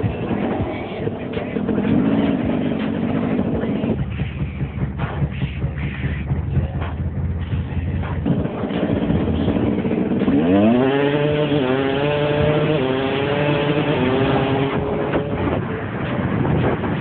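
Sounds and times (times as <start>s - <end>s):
dirt bike engine revving: 0.0s - 4.4s, 7.4s - 17.0s.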